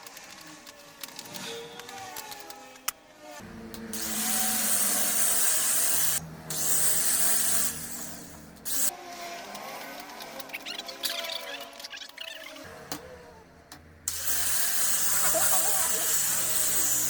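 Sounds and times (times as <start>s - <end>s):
power tool cutting wood: 0.0s - 11.7s, 14.0s - 17.0s.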